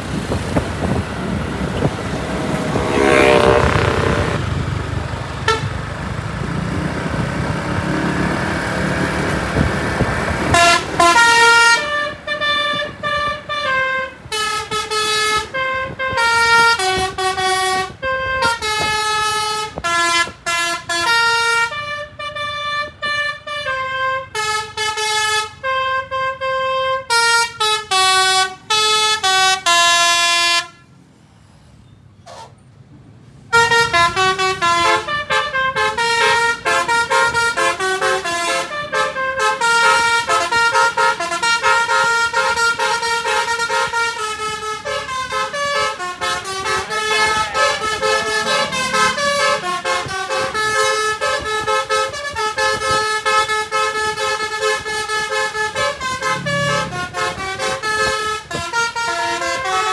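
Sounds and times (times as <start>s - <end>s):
road traffic: 0.0s - 59.9s
vehicle horn: 1.7s - 4.6s, 5.4s - 5.8s, 10.5s - 30.9s, 33.5s - 59.9s
multi-tone air horn tune: 2.6s - 4.5s, 5.4s - 5.7s, 10.5s - 30.9s, 33.5s - 59.9s.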